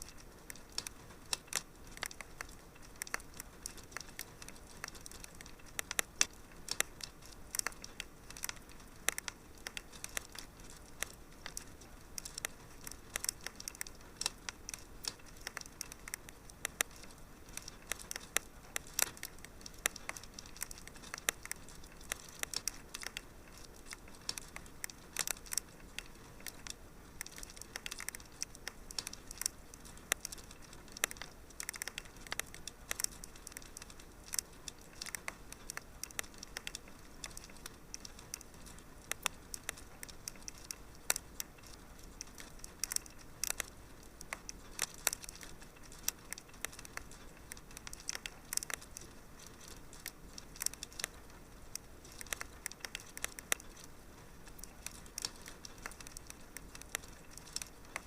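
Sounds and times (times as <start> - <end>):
soft steady fire hiss: 0.0 - 58.0
wood fire crackles and pops: 0.0 - 58.0.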